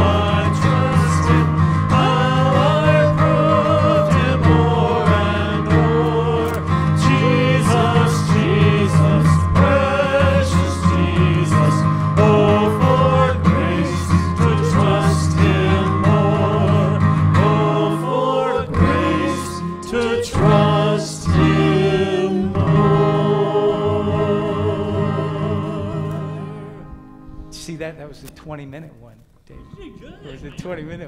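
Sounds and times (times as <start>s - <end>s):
voices singing a hymn: 0.0s - 27.2s
piano: 0.0s - 28.2s
acoustic guitar: 0.0s - 28.9s.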